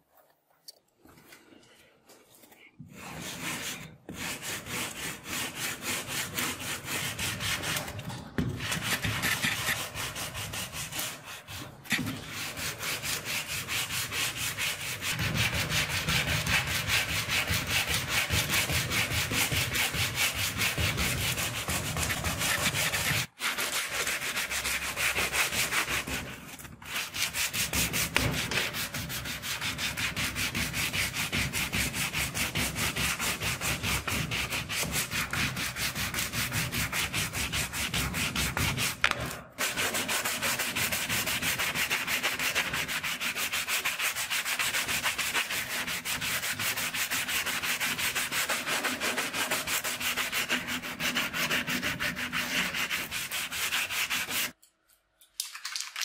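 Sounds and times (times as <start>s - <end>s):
sanding block on steel: 2.9s - 7.9s, 8.6s - 54.6s.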